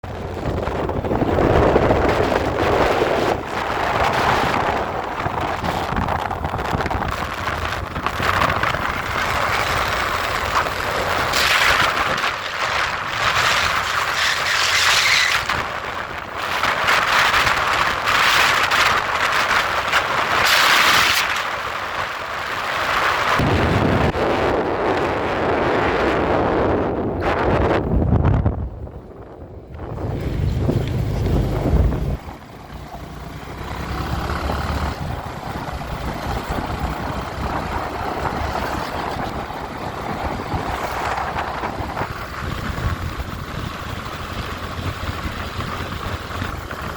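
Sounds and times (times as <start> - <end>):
motorcycle road noise: 0.0 - 46.9
wind buffeting microphone: 0.0 - 46.9.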